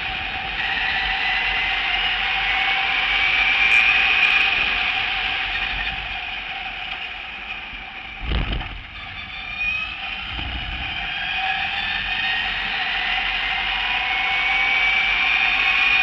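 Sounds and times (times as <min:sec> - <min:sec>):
wind and road noise: 0:00.0 - 0:15.8
electric motor whine: 0:00.0 - 0:16.0.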